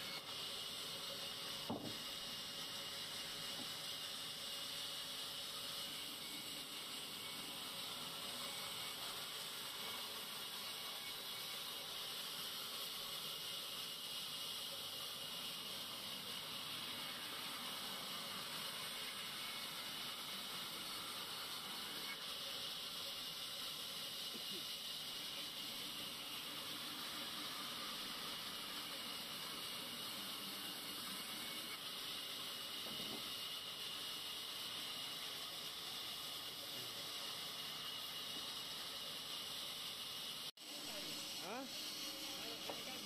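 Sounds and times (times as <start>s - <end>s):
bandsaw hissing: 0.0s - 43.0s.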